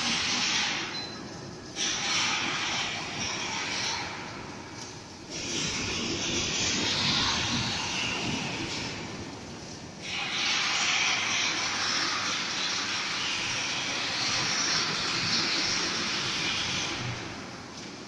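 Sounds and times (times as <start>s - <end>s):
welding machine hissing: 0.0s - 18.0s.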